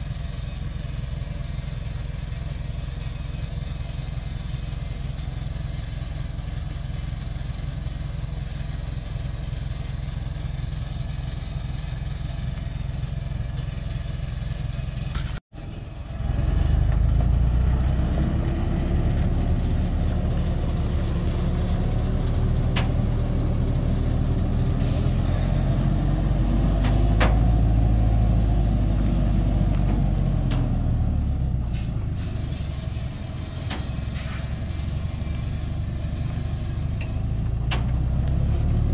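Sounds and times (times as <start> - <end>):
heavy truck engine: 0.0 - 38.9.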